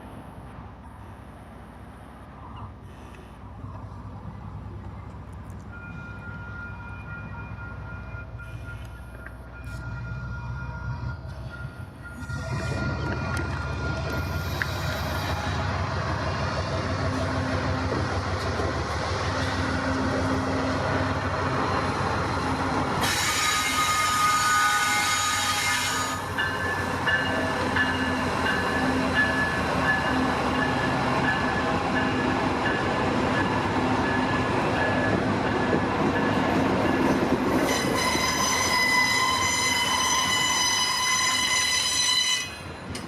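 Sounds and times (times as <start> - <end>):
freight train wheels rumbling on rail: 0.0 - 43.0.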